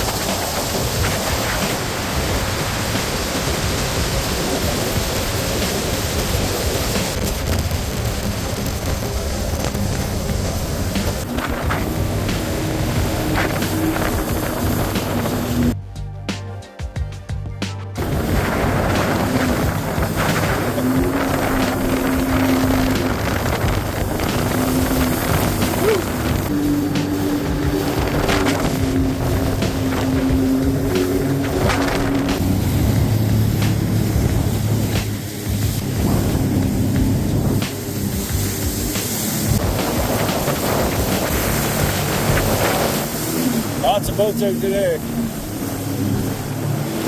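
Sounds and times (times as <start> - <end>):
watercraft wind and water rush: 0.0 - 15.8, 18.0 - 47.0.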